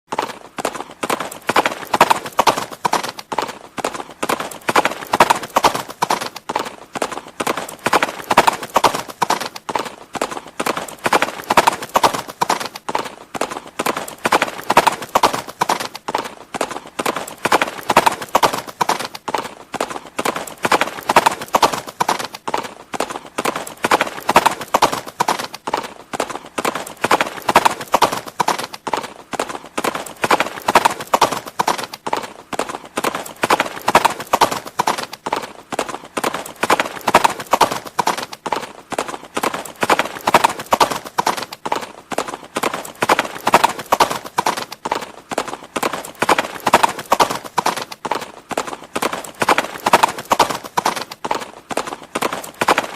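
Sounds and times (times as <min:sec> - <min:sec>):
horse hooves clip-clopping: 0:00.1 - 0:52.9.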